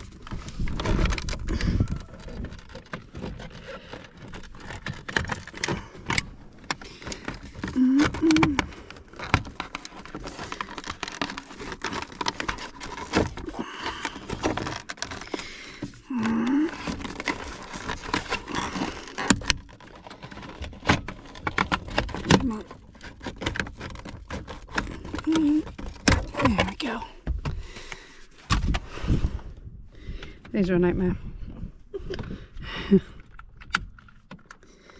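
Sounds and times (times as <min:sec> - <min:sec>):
metal and plastic parts rattling: 0:00.0 - 0:29.3, 0:32.0 - 0:34.9.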